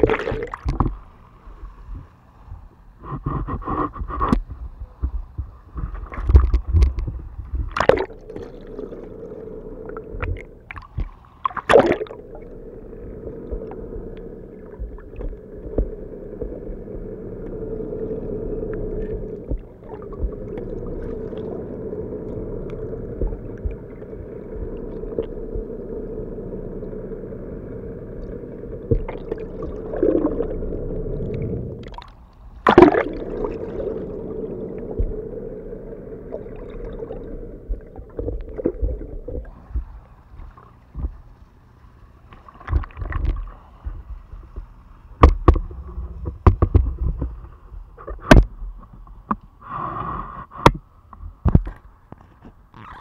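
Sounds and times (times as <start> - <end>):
water gurgling: 0.0 - 1.4, 3.3 - 48.6
muffled underwater hum: 0.0 - 53.0.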